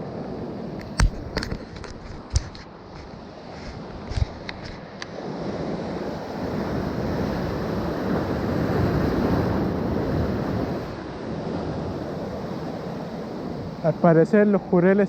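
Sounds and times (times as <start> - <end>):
wave breaking and washing in: 0.0 - 15.0
wind on microphone: 0.0 - 15.0.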